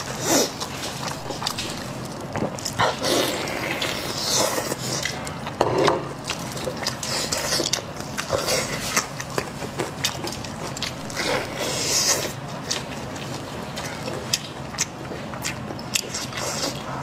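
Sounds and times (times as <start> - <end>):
wet chewing and slurping: 0.0 - 17.0.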